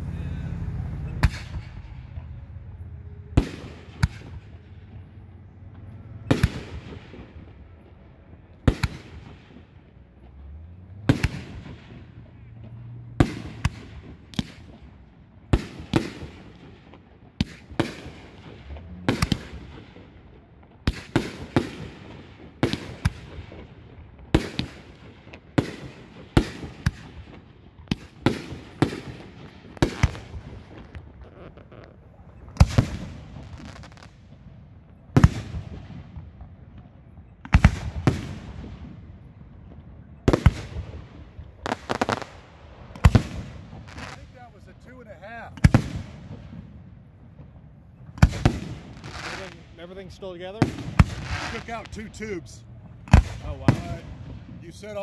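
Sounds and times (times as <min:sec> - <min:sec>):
fireworks bursting: 0:00.0 - 0:55.0
rumble of fireworks: 0:00.0 - 0:55.0.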